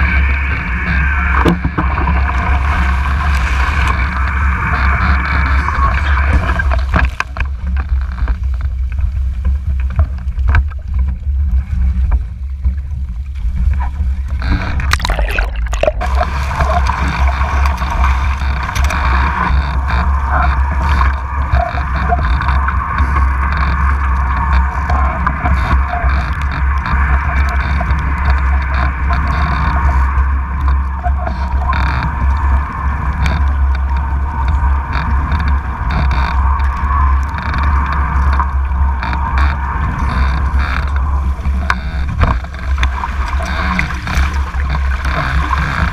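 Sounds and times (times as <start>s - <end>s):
water rushing along hull: 0.0s - 45.9s
water splashing: 0.0s - 45.9s.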